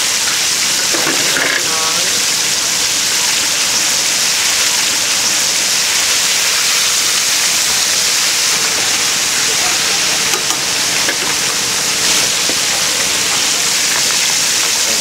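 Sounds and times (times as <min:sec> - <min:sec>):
deep-frying oil sizzling: 0:00.0 - 0:15.0.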